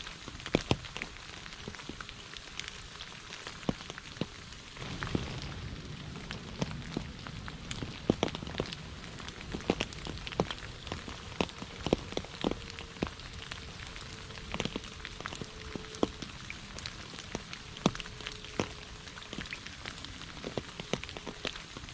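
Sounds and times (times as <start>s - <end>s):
sharp raindrops striking close: 0.0s - 21.9s
heavy rain hissing: 1.6s - 21.9s.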